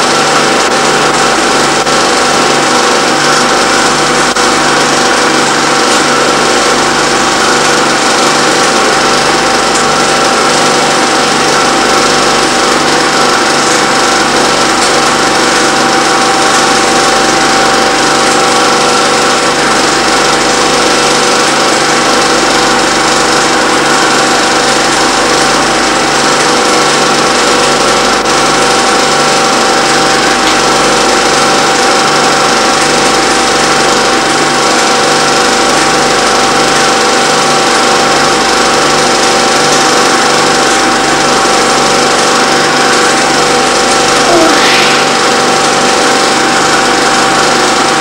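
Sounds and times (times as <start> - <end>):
film projector whirring: 0.0 - 48.0.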